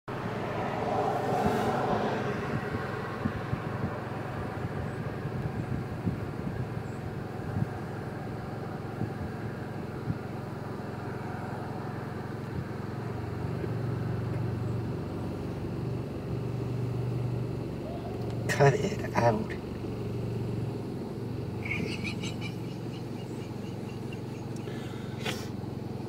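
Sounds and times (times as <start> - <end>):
car engine idling: 0.1 - 26.0.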